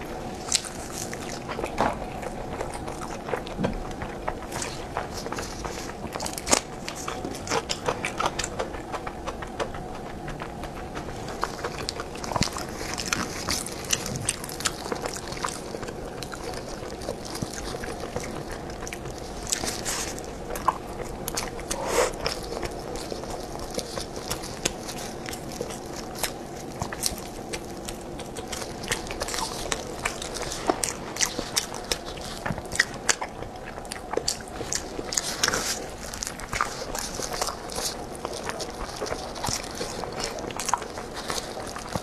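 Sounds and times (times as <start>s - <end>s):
chewing and biting: 0.0s - 42.0s
faint steady hum: 0.0s - 42.0s.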